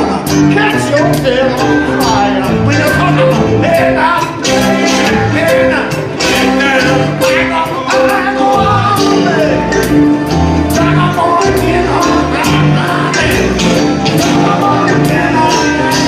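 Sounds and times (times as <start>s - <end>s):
bass line: 0.0s - 16.0s
person singing: 0.0s - 16.0s
steady drum beat: 0.0s - 16.0s.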